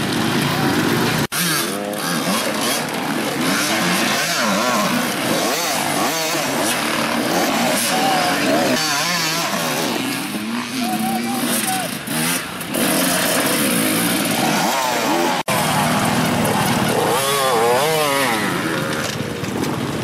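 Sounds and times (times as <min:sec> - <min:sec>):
dirt bikes revving: 0:00.0 - 0:20.0.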